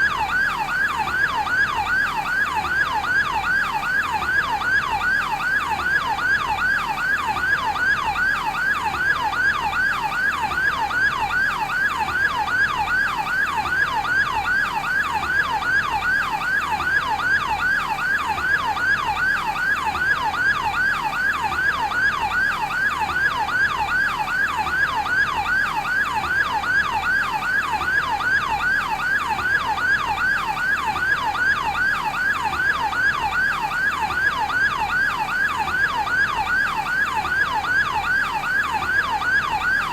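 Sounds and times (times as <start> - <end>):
ambulance yelp siren: 0.0 - 39.9.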